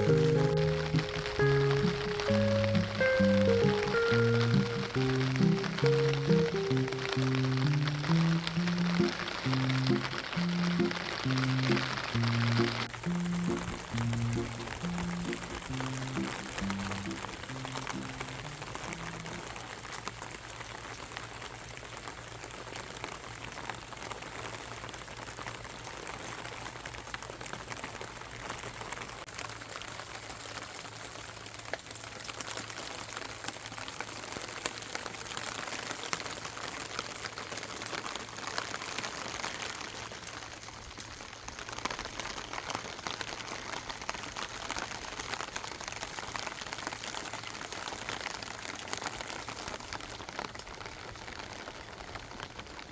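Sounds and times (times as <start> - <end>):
raindrops ticking on surfaces: 0.0 - 52.9
steady rain falling: 0.0 - 52.9.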